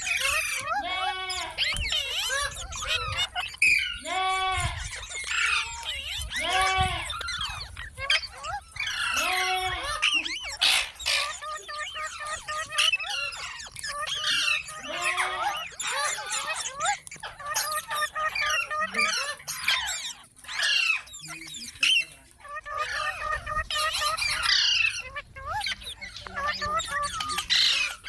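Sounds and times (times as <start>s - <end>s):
parakeet squawking and chattering: 0.0s - 28.0s.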